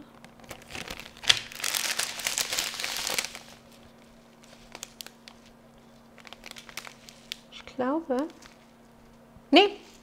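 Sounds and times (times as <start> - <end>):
plastic bags crinkling: 0.2 - 9.0.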